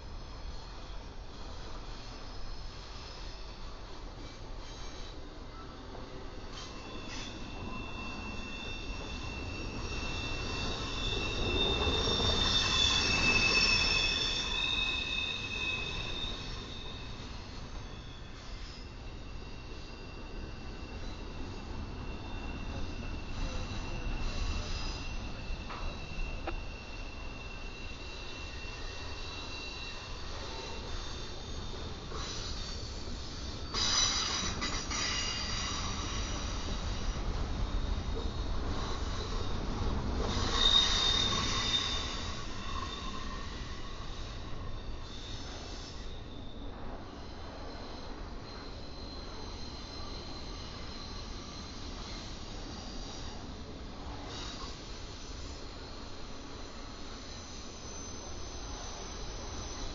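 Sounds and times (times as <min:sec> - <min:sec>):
freight train rolling past: 0:00.0 - 0:59.9
train wheels squealing: 0:00.0 - 0:59.9.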